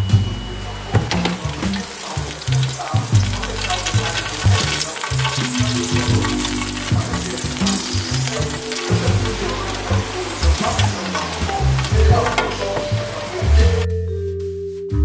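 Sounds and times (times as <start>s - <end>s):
chicken sizzling in fat: 0.7s - 13.8s.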